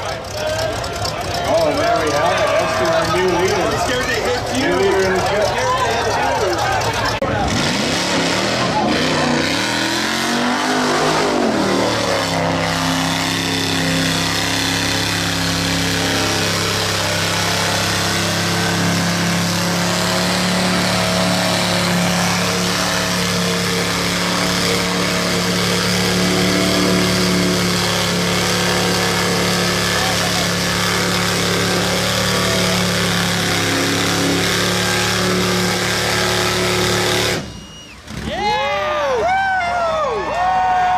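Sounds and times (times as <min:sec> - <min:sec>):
off-road vehicle engine: 0:00.0 - 0:40.9.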